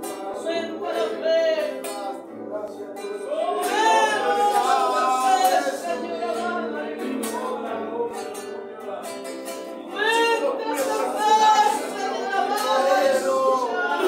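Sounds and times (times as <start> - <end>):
congregation singing: 0.0 - 14.0.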